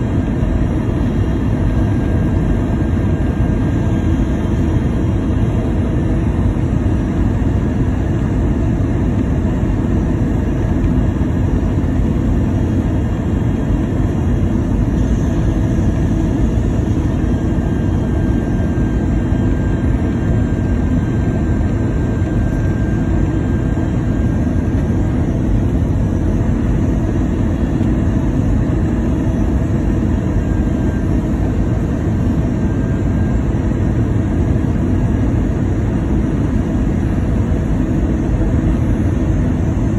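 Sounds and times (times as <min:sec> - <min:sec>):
faint high whine: 0:00.0 - 0:39.9
jet engines and airflow rumble: 0:00.0 - 0:39.9.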